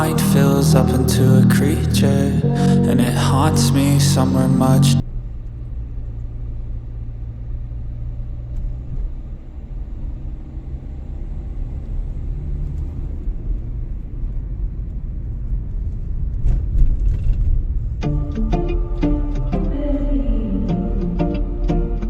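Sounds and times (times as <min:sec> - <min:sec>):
low rumble of night street: 0:00.0 - 0:22.0.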